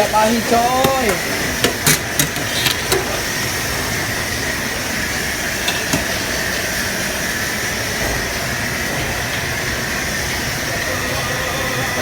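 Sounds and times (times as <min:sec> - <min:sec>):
kitchen equipment and ventilation hum: 0:00.0 - 0:12.0.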